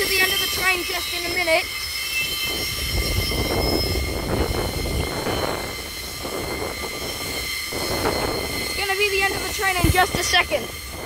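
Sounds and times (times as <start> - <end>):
wagon wheels rumbling on rails: 0.0 - 11.0.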